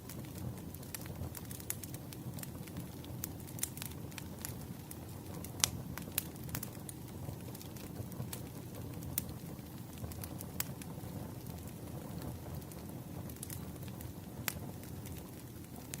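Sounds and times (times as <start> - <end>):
fire pops and snaps: 0.0 - 16.0
low rumble of burning logs: 0.0 - 16.0.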